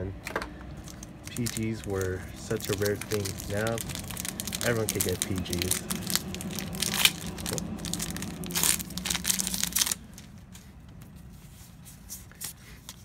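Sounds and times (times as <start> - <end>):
plastic wrappers crinkling: 0.6 - 13.0.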